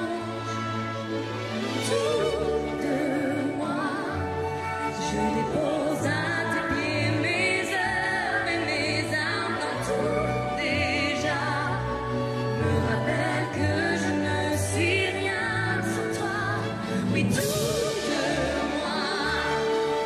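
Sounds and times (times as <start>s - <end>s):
woman singing with vibrato: 0.0s - 1.0s, 1.7s - 20.0s.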